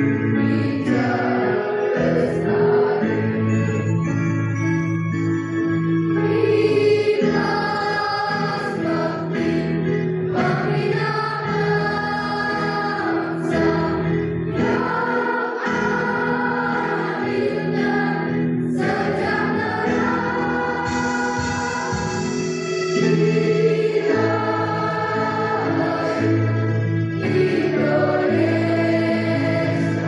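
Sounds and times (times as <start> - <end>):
choir singing: 0.0 - 3.7, 6.2 - 30.0.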